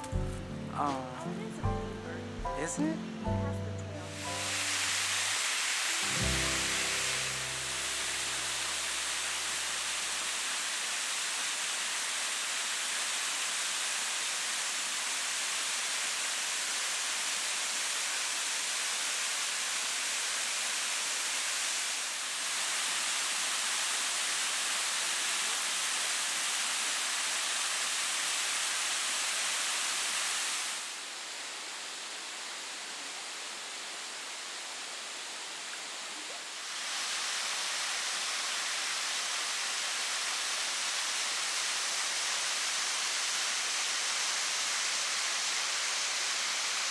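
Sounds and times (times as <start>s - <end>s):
waterfall pouring: 4.0s - 31.1s, 32.3s - 46.9s.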